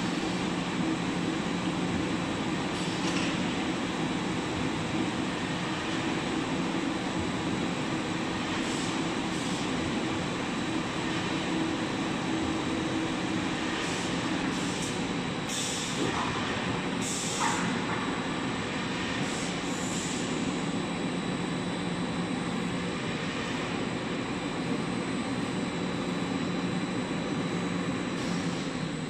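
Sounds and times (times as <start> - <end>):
production line machinery running: 0.0 - 29.0.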